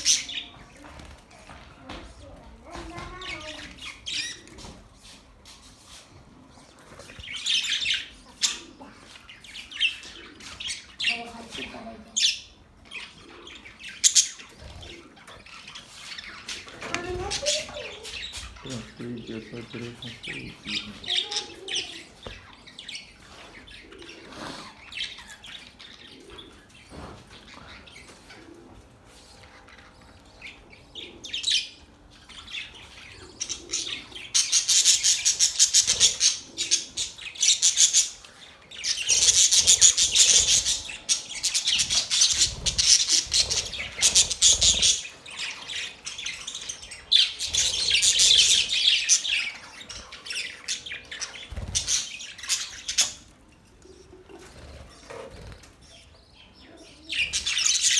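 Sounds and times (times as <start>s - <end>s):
budgerigars chirping: 0.0s - 0.6s, 3.2s - 4.6s, 7.2s - 28.1s, 30.2s - 53.3s, 53.9s - 57.9s.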